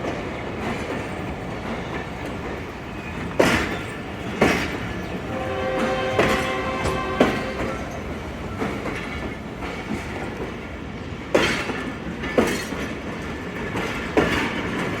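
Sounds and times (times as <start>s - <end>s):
train wheels rumbling over rail joints: 0.0s - 15.0s.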